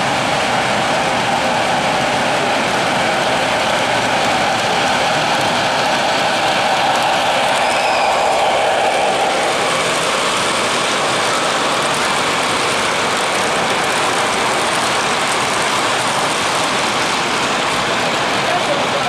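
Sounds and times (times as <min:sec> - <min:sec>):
model train wheels rolling on rails: 0:00.0 - 0:19.0.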